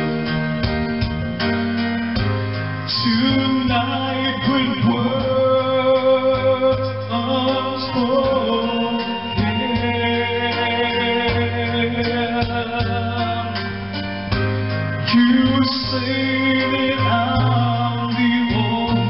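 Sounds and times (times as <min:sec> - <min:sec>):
recorded instrumental accompaniment: 0:00.0 - 0:19.0
man singing into microphone: 0:02.7 - 0:19.0.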